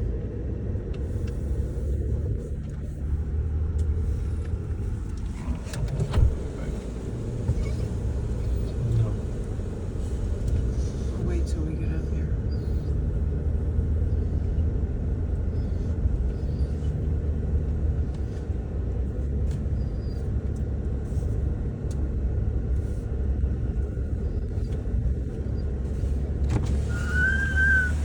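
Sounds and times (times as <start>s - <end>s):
car driving rumble inside cabin: 0.0s - 28.0s.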